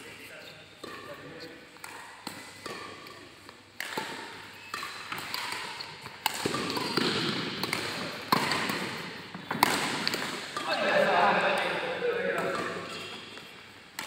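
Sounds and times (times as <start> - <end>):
racket hitting shuttlecock: 0.8 - 14.0.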